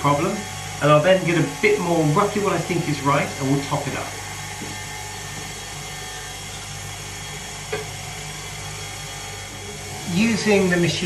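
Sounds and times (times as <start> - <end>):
stand mixer running: 0.0 - 11.0.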